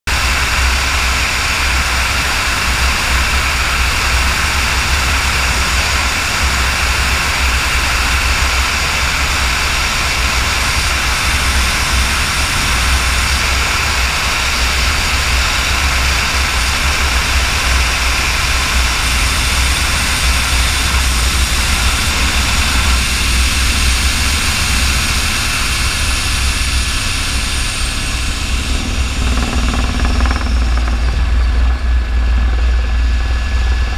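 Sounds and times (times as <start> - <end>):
helicopter engine whine: 0.1 - 33.9
helicopter rotor noise: 0.1 - 33.9.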